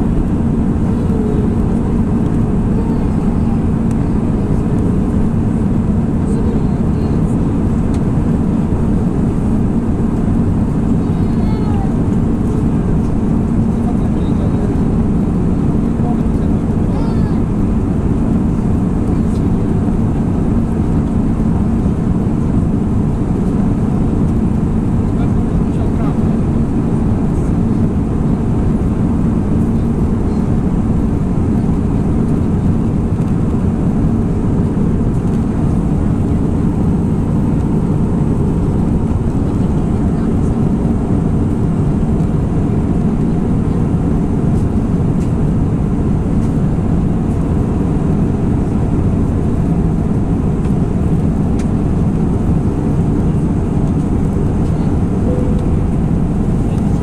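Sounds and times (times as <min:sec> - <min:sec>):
aircraft engines droning: 0:00.0 - 0:57.0
airflow over fuselage: 0:00.0 - 0:57.0.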